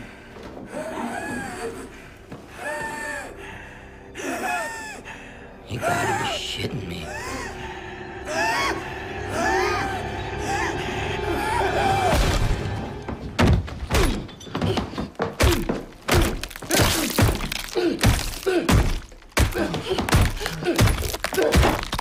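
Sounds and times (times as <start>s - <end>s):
dramatic film music: 0.0s - 22.0s.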